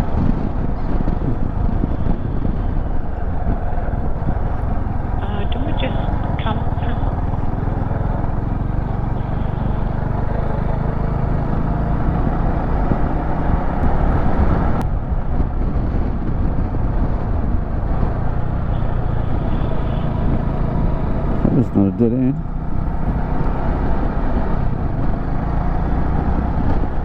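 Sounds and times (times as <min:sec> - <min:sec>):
motorcycle engine cruising: 0:00.0 - 0:27.0
wind rushing over microphone: 0:00.0 - 0:27.0.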